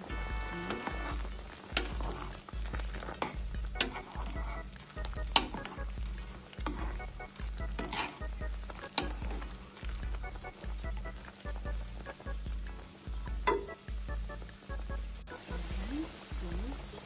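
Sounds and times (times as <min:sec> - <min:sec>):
broth bubbling: 0:00.5 - 0:14.4.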